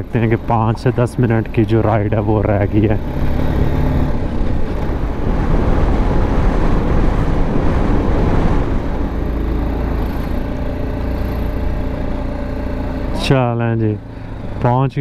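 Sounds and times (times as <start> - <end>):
motorcycle engine hum: 0.0 - 15.0
wind and road noise: 0.0 - 15.0.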